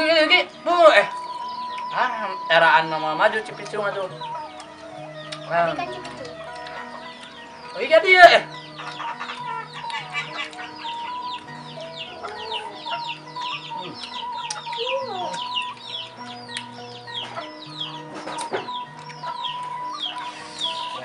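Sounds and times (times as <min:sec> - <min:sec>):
background music with low notes: 0:00.0 - 0:21.0
rapid high chirping: 0:00.0 - 0:21.0.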